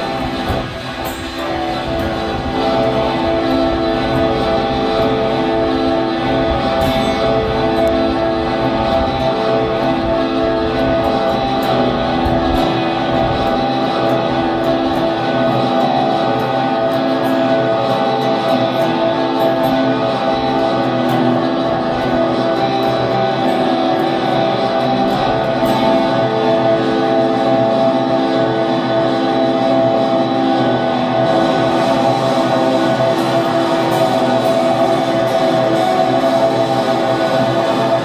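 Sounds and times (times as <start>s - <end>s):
held layered tones: 0.0s - 38.0s
picked guitar notes: 0.0s - 38.0s.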